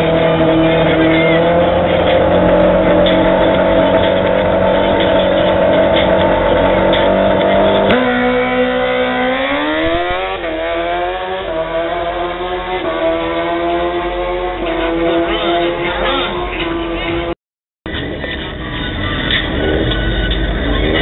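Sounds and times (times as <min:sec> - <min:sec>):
motorcycle engine revving and accelerating: 0:00.0 - 0:21.0.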